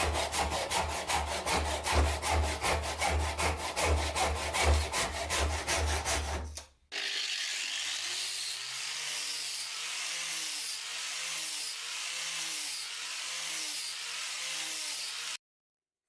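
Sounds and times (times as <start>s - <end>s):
sanding noise: 0.0s - 6.6s, 8.6s - 15.4s.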